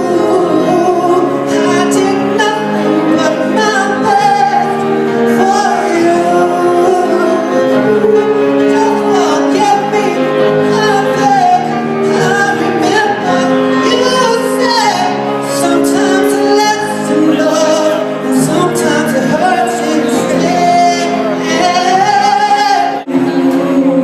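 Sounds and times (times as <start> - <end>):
person singing long gliding notes: 0.0 - 24.0
pop music accompaniment: 0.0 - 24.0.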